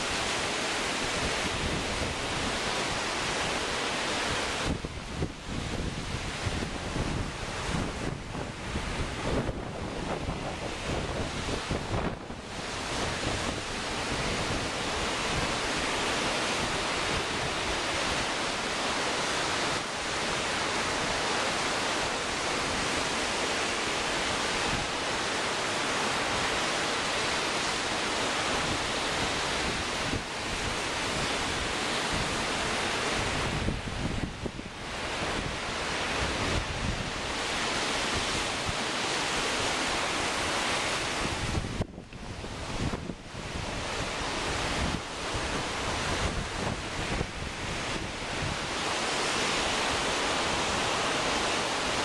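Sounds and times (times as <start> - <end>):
wind buffeting microphone: 0.0 - 23.1, 28.4 - 52.0
waves breaking: 0.0 - 52.0.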